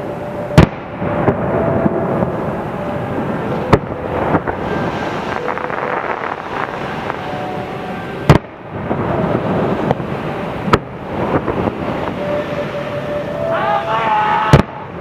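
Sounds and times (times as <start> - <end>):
fireworks crackle and rumble: 0.0 - 15.0.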